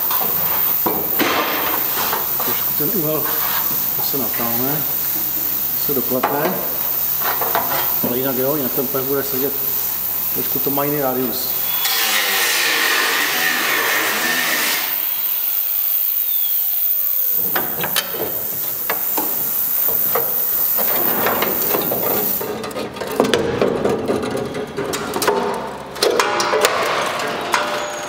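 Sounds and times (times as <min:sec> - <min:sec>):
power tool whine: 0:00.0 - 0:22.5.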